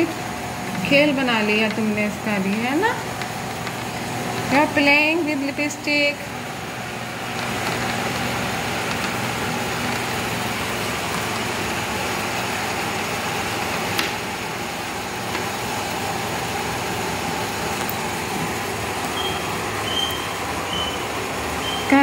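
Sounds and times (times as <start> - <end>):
mechanical hum with airy rush: 0.0 - 22.0.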